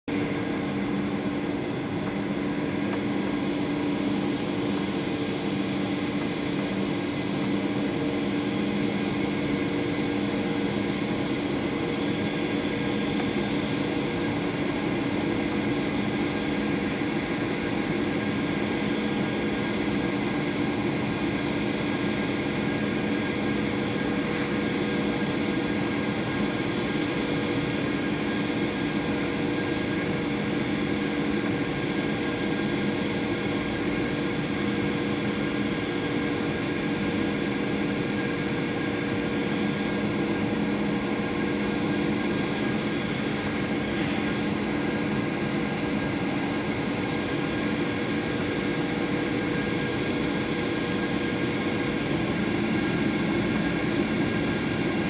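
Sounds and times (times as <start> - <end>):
faint high whine: 0.1 - 55.0
jet engine cabin drone: 0.1 - 55.0.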